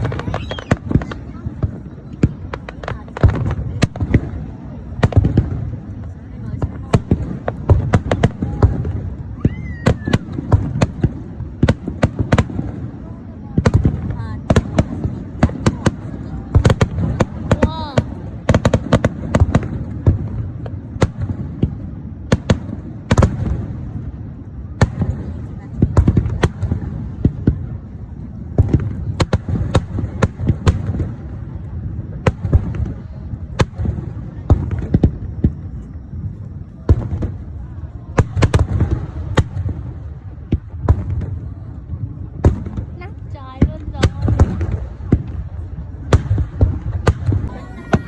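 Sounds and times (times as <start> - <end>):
continuous low rumble: 0.0 - 48.0
fireworks bangs and crackles: 0.0 - 48.0.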